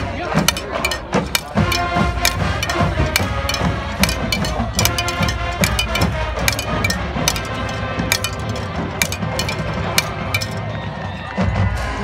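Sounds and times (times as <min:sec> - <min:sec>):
rapid drumline hits: 0:00.3 - 0:12.0.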